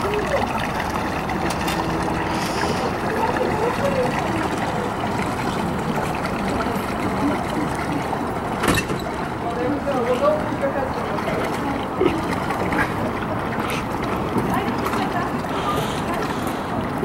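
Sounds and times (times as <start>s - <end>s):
water churning and splashing: 0.0s - 17.0s.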